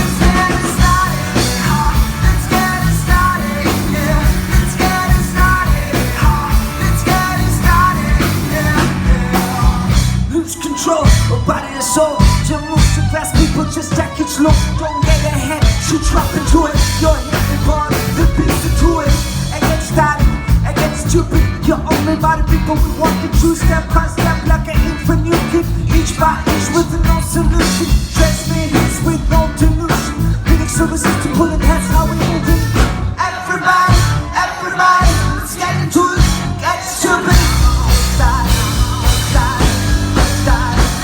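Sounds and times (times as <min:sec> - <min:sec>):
loud band music with heavy bass: 0:00.0 - 0:41.0.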